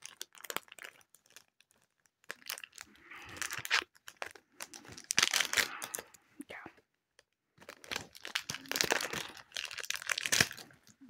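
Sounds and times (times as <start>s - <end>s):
foil wrapper crinkling: 0.0s - 6.1s, 7.6s - 11.0s.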